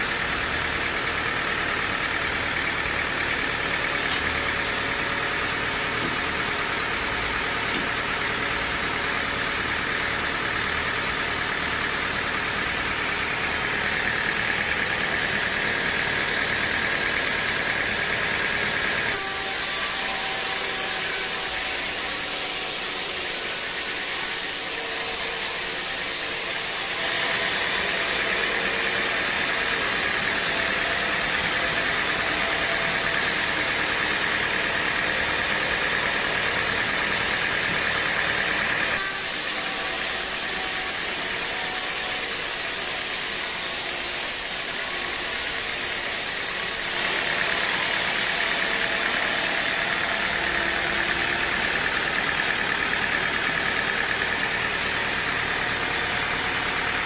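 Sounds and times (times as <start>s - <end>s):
band saw cutting wood: 0.0s - 57.0s.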